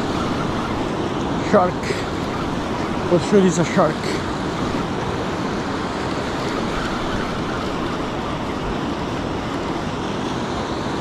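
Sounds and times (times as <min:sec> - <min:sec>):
ocean surf: 0:00.0 - 0:11.0
wind on microphone: 0:00.0 - 0:11.0.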